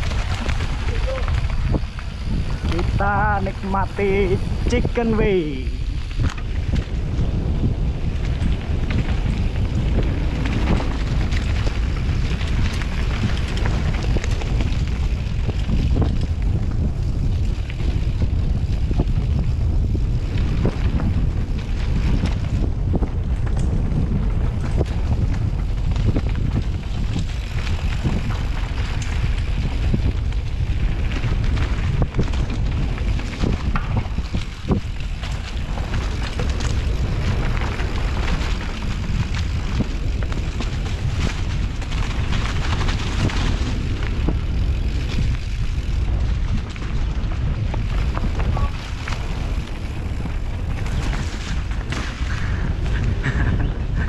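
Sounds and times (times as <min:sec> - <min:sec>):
bike rattling clicks and knocks: 0:00.0 - 0:54.0
tyres rumbling on dirt: 0:00.0 - 0:54.0
wind buffeting microphone: 0:00.0 - 0:54.0.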